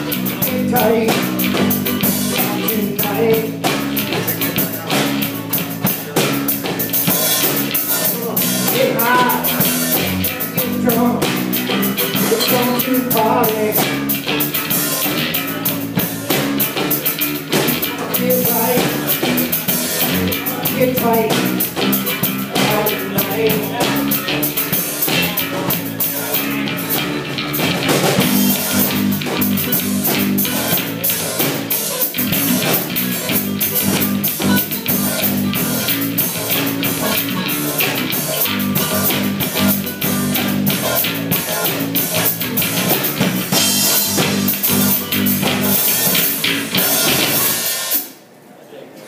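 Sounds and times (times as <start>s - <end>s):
steady drum beat: 0.0s - 48.2s
live rock band playing: 0.0s - 48.3s
strummed acoustic guitar: 7.0s - 47.5s.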